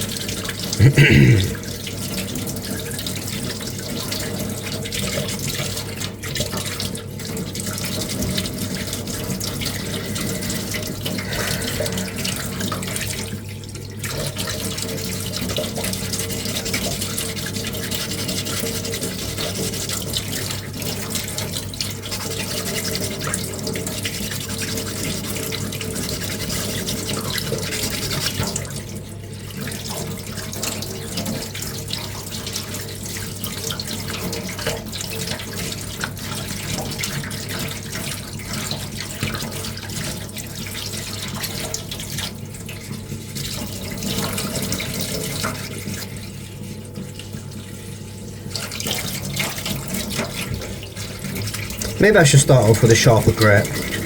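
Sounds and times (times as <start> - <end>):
running tap water: 1.7 - 52.4.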